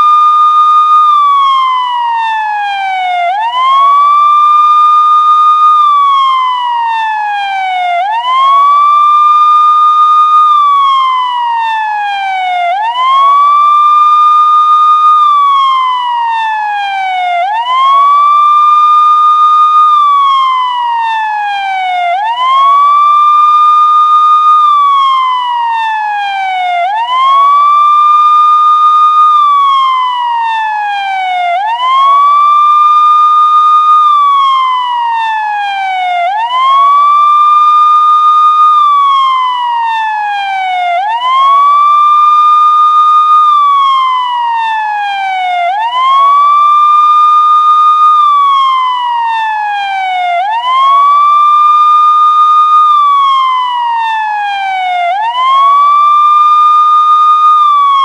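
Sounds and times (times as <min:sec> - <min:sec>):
police siren wailing: 0:00.0 - 0:58.0.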